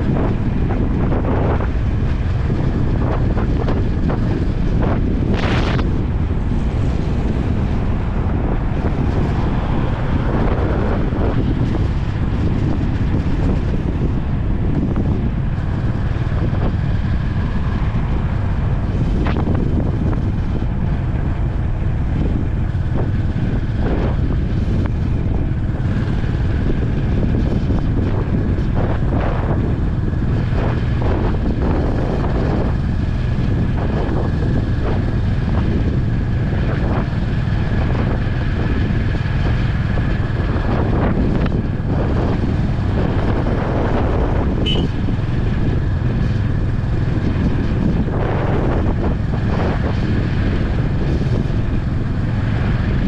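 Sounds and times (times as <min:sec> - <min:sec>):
motorcycle engine drone: 0:00.0 - 0:53.0
wind rushing over microphone: 0:00.0 - 0:53.0.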